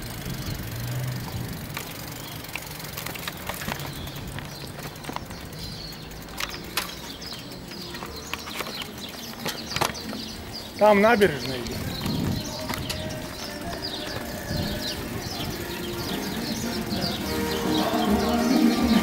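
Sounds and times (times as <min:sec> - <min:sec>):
bicycle rattling over tiles: 0:00.0 - 0:19.0.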